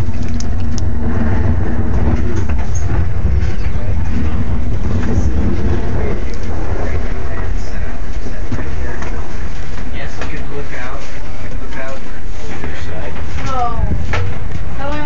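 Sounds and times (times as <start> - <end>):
propeller aircraft engines rumbling: 0.0 - 15.0.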